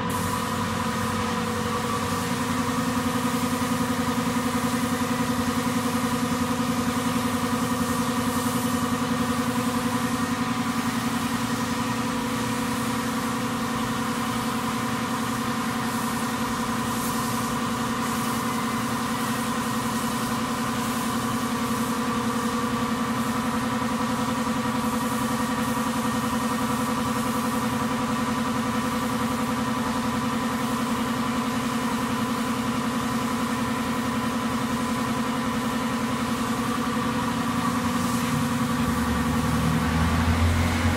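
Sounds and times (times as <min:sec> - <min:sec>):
paint spray gun hissing: 0:00.0 - 0:40.9.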